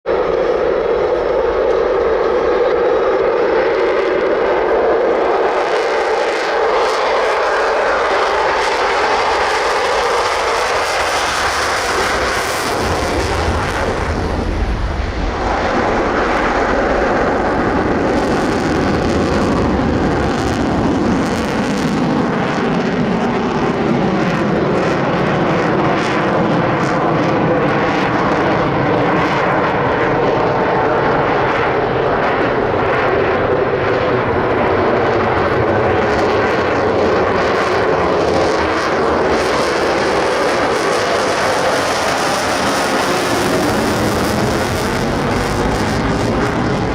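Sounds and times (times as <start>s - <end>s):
jet engines roaring flyby: 0.0s - 46.9s.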